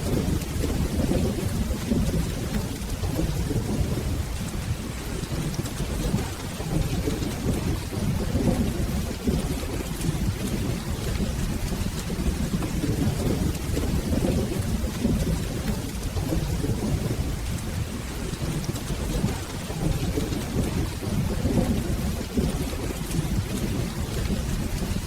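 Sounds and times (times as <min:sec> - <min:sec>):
rolling thunder: 0:00.0 - 0:25.0
steady rain: 0:00.0 - 0:25.0.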